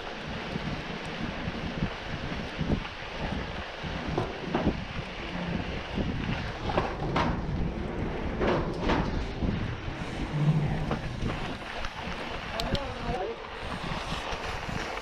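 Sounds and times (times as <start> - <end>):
bike tyre rumble on trail: 0.0 - 15.0
wind buffeting microphone: 0.0 - 15.0.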